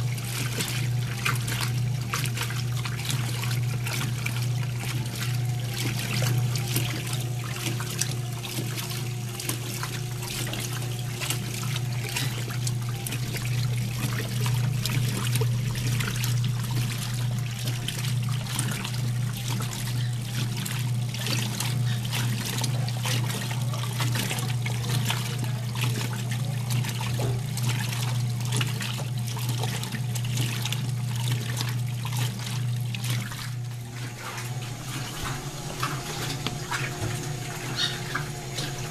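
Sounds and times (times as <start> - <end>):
washing machine motor hum: 0.0 - 38.9
water trickling and splashing: 0.0 - 38.9.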